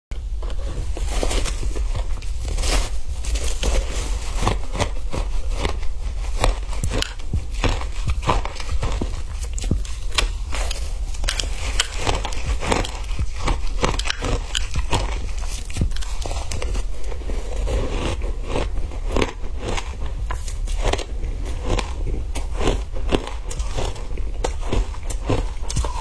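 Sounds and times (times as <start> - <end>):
steady low hum: 0.1 - 26.0
ice crunching when chewed: 0.4 - 26.0.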